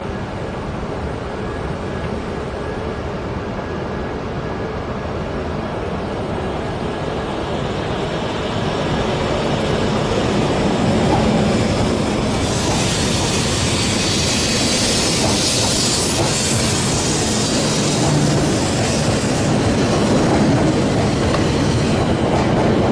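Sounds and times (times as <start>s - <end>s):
passenger train rumbling: 0.0s - 22.9s.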